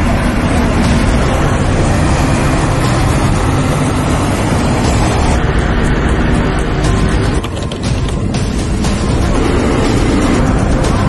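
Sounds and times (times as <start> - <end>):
truck engines and road noise: 0.0 - 11.0.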